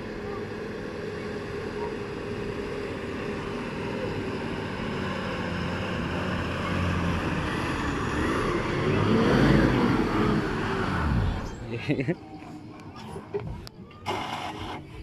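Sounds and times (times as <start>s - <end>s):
bus diesel engine labouring: 0.0s - 15.0s.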